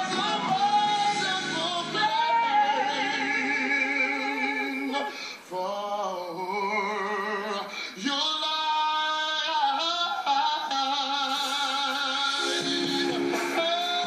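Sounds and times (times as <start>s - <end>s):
man and woman singing a duet: 0.0s - 14.0s.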